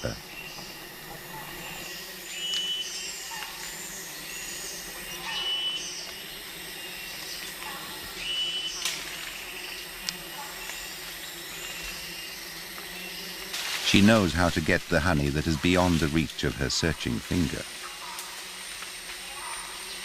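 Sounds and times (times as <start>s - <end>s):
high insect hiss: 0.0s - 14.9s, 15.5s - 20.0s.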